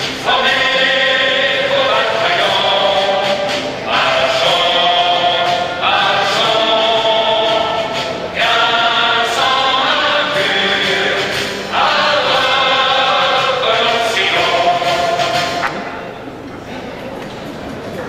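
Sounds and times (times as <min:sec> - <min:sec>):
choir singing held chords: 0:00.0 - 0:16.4.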